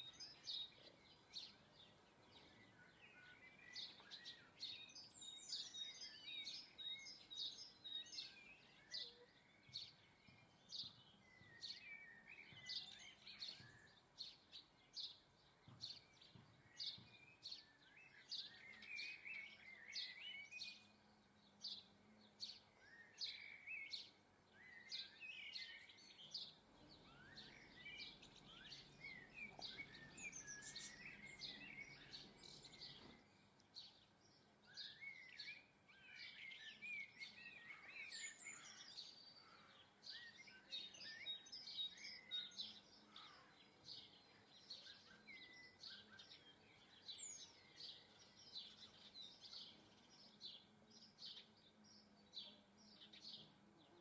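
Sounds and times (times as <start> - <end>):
birds twittering: 0.0 - 54.0
songbirds chirping: 0.0 - 54.0.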